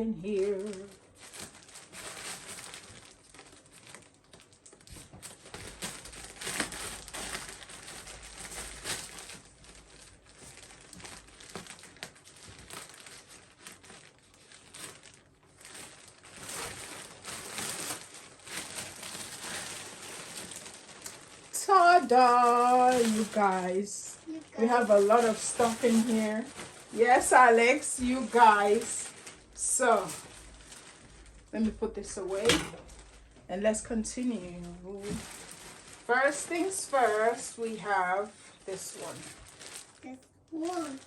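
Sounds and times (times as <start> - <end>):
parcel packaging crinkling: 0.0 - 41.0.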